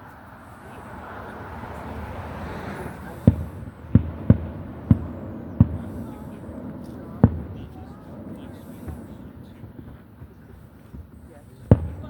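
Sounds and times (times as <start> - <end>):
fireworks booming: 0.7 - 12.0.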